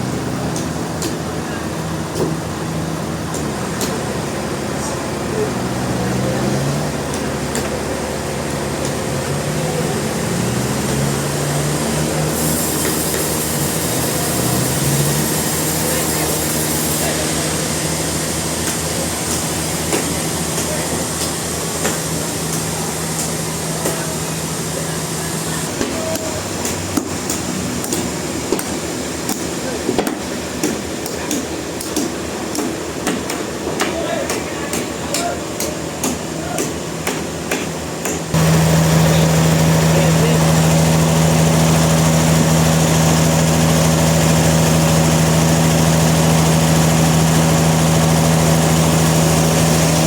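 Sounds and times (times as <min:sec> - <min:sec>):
continuous loud machinery noise: 0:00.0 - 0:50.0
sawmill engine hum: 0:00.0 - 0:50.0.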